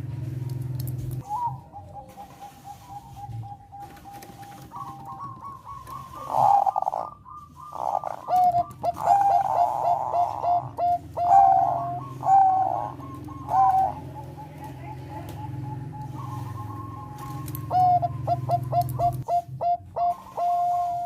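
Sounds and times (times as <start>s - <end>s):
steady low hum: 0.0s - 21.0s
dove cooing: 1.2s - 21.0s.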